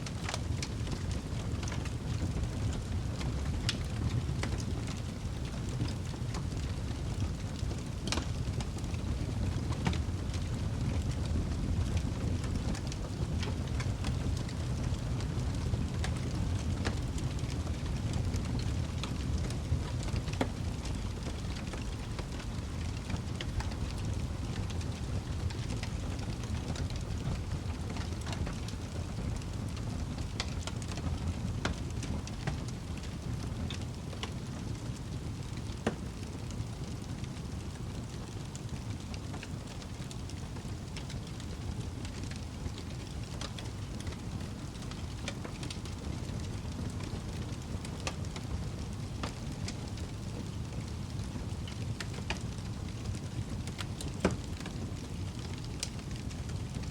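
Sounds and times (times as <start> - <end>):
fire roaring: 0.0 - 56.9
logs crackling and popping: 0.0 - 56.9
low rumble of flames: 0.0 - 56.9.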